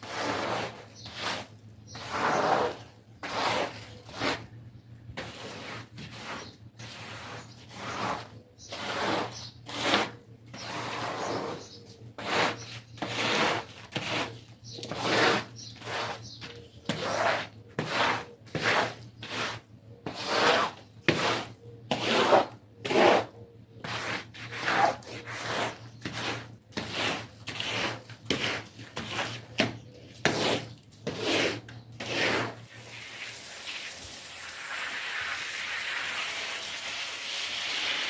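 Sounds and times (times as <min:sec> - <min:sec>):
brush scrubbing wet carpet: 0:00.0 - 0:04.5, 0:05.2 - 0:29.6, 0:30.2 - 0:36.8.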